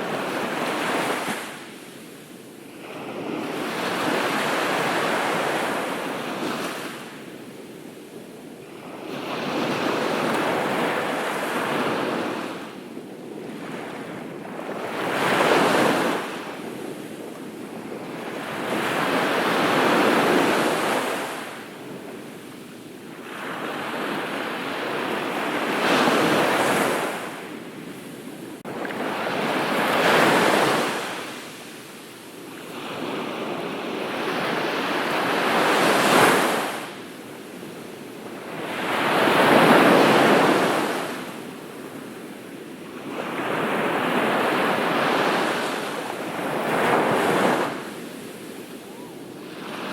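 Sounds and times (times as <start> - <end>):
ocean waves breaking on beach: 0.0 - 49.9.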